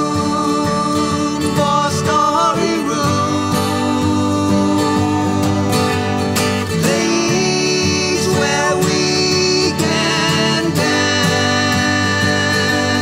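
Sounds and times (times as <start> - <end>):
acoustic guitars playing: 0.0 - 13.0
person singing: 0.0 - 13.0.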